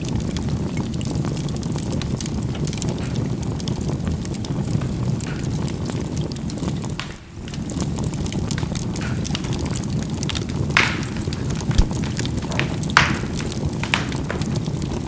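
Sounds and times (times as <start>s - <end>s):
charcoal crackling and popping: 0.0s - 15.0s
charcoal fire rumbling: 0.0s - 15.0s.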